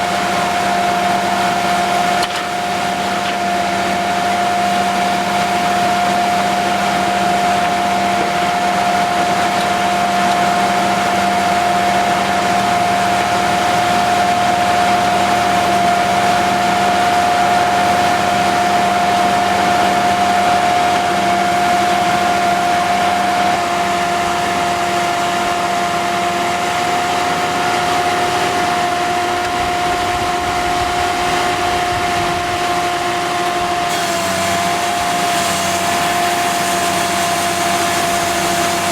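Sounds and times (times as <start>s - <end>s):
sawmill machine running: 0.0s - 38.9s.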